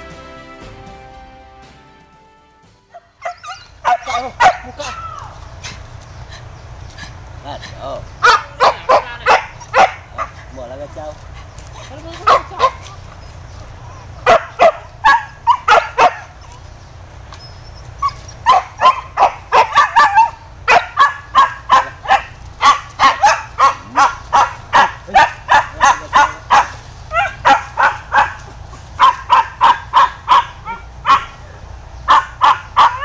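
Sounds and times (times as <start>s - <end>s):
dogs barking: 2.9s - 33.0s.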